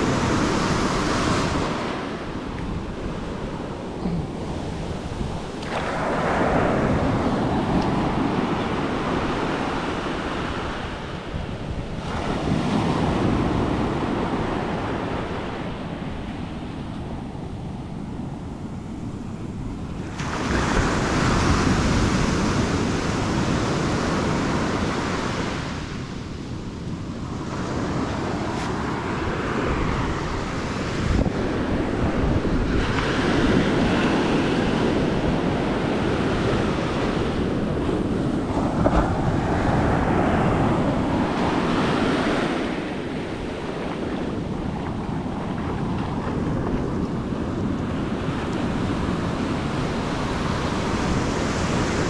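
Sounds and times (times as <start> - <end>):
ocean surf breaking on sand: 0.0 - 52.0
wind buffeting microphone: 0.0 - 52.0.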